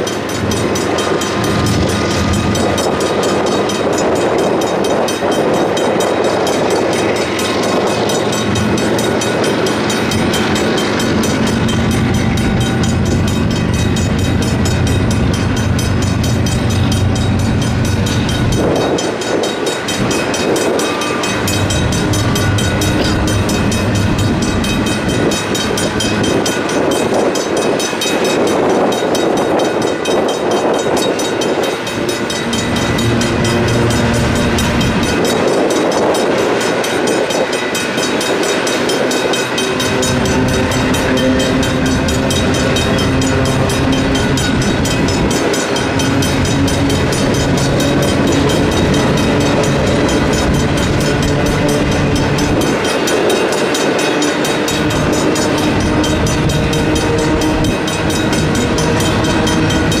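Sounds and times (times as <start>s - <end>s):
electronic crossing bell ringing: 0.0s - 60.0s
freight train wheels rumbling on rails: 0.0s - 60.0s
mechanical crossing bell ringing: 0.0s - 60.0s.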